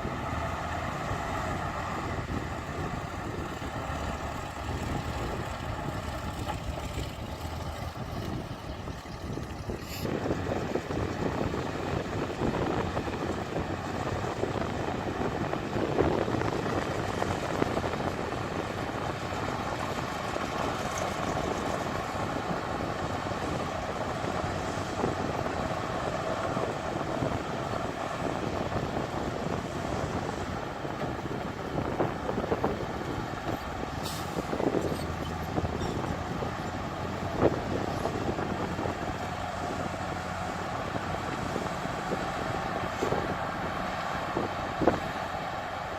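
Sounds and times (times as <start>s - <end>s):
diesel earthmoving machinery running: 0.0s - 45.9s.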